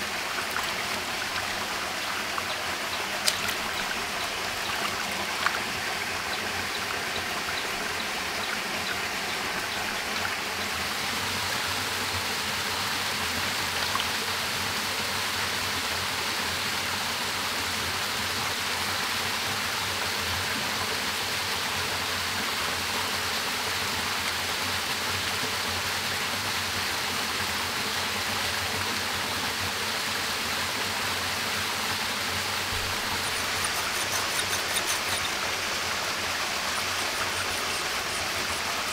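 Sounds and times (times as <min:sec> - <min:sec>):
stream and waterfall over rocks: 0:00.0 - 0:38.9.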